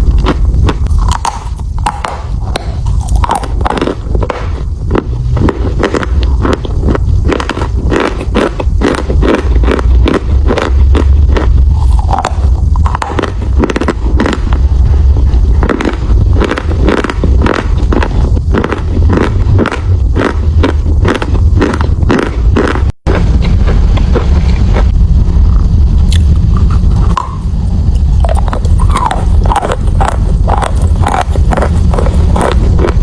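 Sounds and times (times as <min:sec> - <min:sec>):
chewing chalk crunches: 0:00.0 - 0:24.9, 0:26.1 - 0:33.0.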